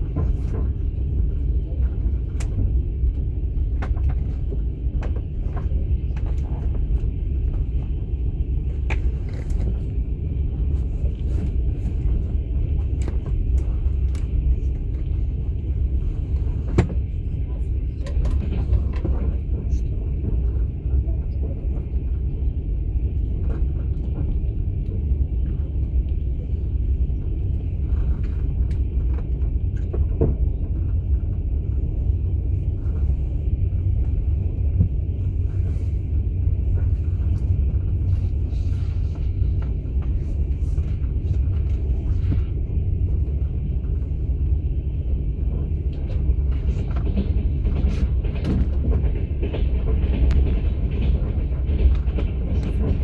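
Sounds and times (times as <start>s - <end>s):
train rumble from inside carriage: 0.0s - 53.0s.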